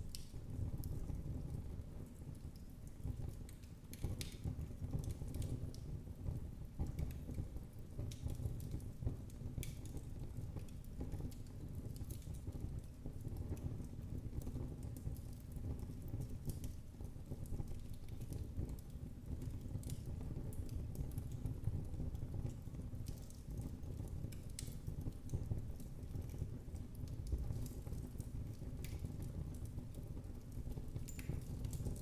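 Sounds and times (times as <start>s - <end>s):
fire crackling and popping: 0.0s - 32.0s
fire rumbling: 0.0s - 32.0s.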